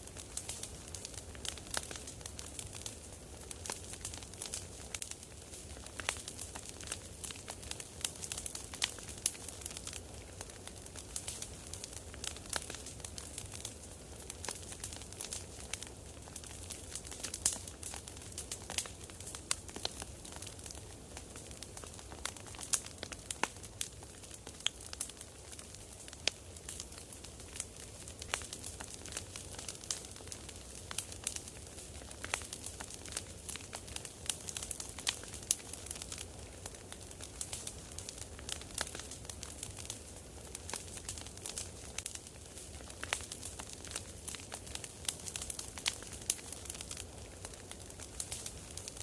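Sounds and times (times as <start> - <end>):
campfire crackling and popping: 0.0 - 49.0.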